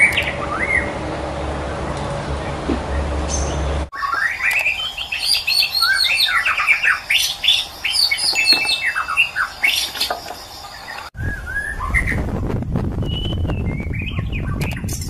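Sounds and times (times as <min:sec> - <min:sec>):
bird singing whistles and trills: 0:00.0 - 0:01.0, 0:02.9 - 0:12.3, 0:13.0 - 0:15.0.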